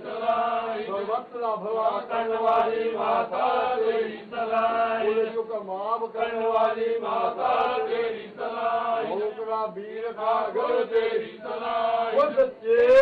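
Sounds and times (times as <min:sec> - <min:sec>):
men chanting mantras: 0:00.0 - 0:13.0.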